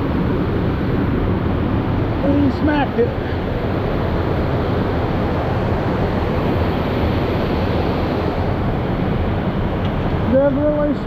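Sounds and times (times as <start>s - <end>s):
roar of rushing water: 0.0s - 11.0s.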